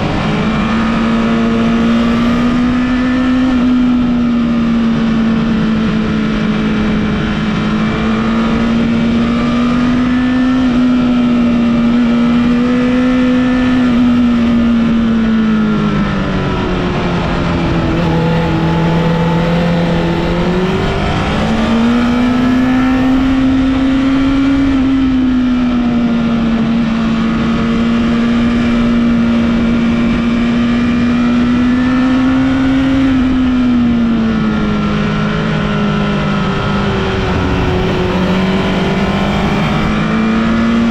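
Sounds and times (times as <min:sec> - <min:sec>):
motorcycle engine revving high: 0:00.0 - 0:40.9.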